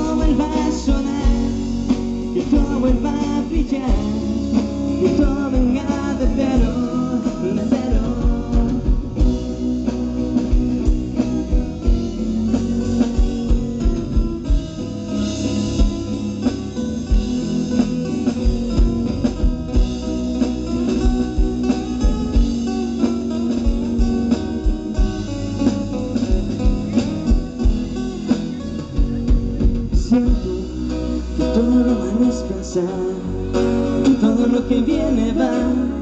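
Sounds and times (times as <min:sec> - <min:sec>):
instrumental pop-rock band: 0:00.0 - 0:36.0.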